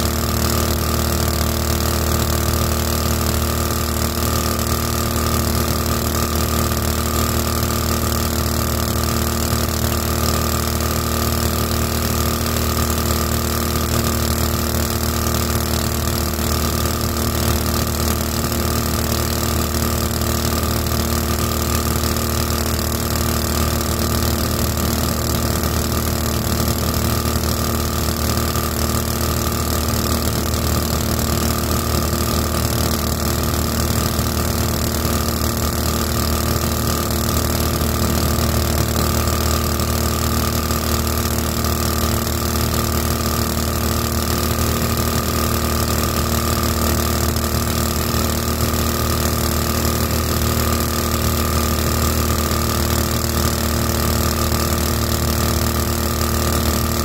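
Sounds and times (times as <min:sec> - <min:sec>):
small boat engine running: 0:00.0 - 0:57.0.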